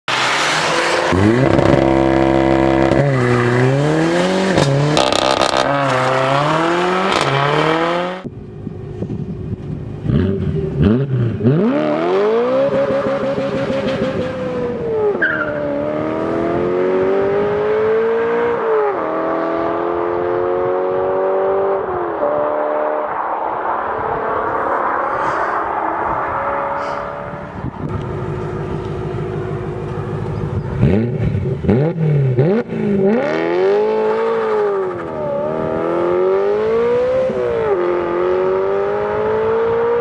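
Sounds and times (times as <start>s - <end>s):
car accelerating through gears: 0.1s - 8.3s, 10.0s - 40.0s
car engine revving: 0.1s - 8.7s, 9.7s - 40.0s.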